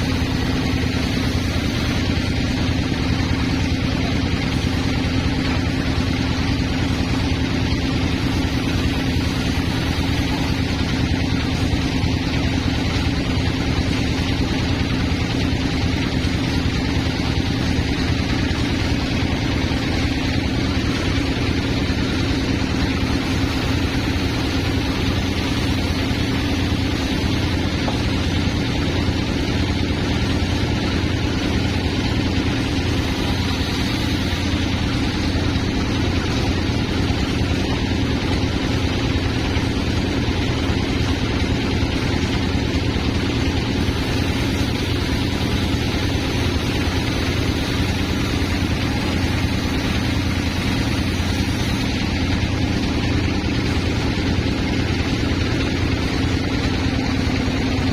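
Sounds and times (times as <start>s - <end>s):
sawmill engine running: 0.0s - 57.9s.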